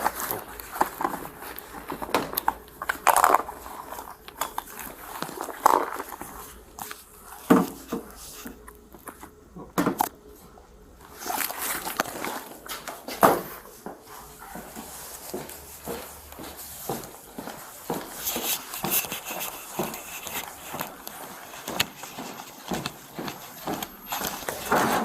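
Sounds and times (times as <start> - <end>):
rustling and crinkling in a purse: 0.0 - 9.4, 11.0 - 25.0.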